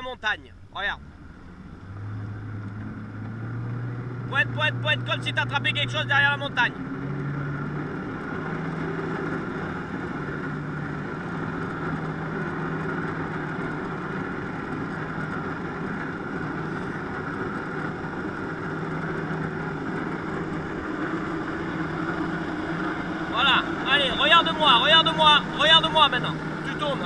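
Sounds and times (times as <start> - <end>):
jet ski engine running: 0.0 - 27.0
water rushing: 0.0 - 27.0.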